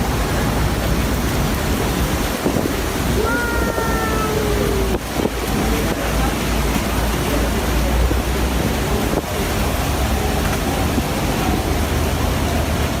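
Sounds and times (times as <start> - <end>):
sea water crashing: 0.0 - 13.0
wind buffeting microphone: 0.0 - 13.0.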